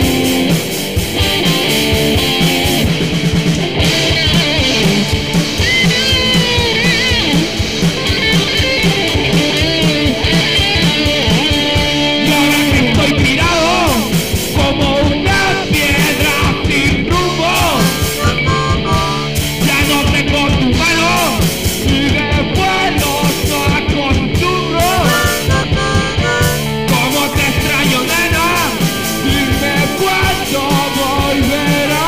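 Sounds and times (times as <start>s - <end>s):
punk rock band playing: 0.0s - 32.0s.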